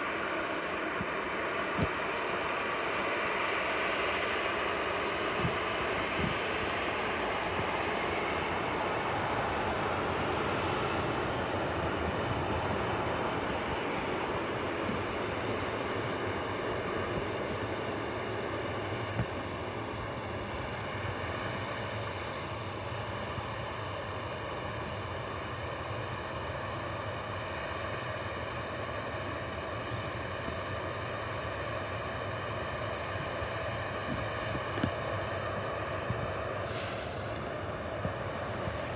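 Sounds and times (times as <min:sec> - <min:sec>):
airliner engines running: 0:00.0 - 0:38.9.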